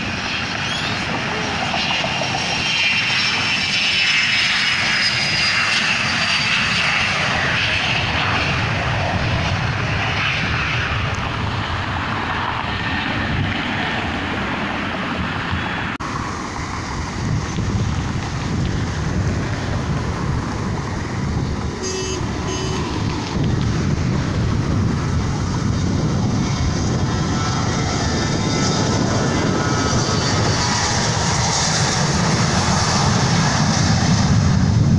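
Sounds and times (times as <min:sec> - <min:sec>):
jet engines roaring with whine: 0:00.0 - 0:34.9.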